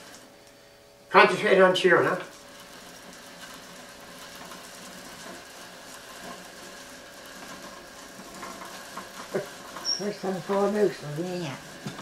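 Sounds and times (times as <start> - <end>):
rope whirring through pulley: 0.0 - 0.3, 1.4 - 12.0
chair dragged across carpet: 2.1 - 12.0.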